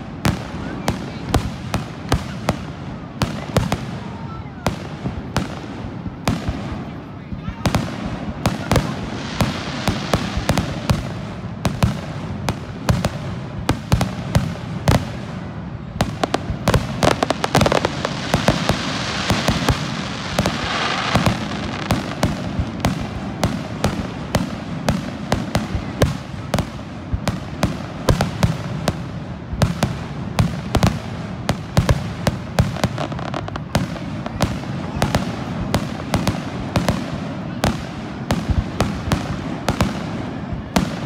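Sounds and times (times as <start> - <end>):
fireworks bursting: 0.0 - 41.0
fireworks hiss: 0.0 - 41.0.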